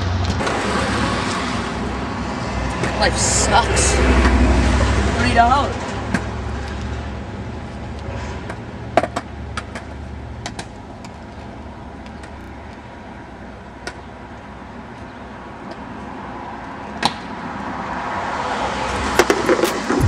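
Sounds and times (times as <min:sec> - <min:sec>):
passing cars rumbling: 0:00.0 - 0:13.7, 0:15.4 - 0:20.0.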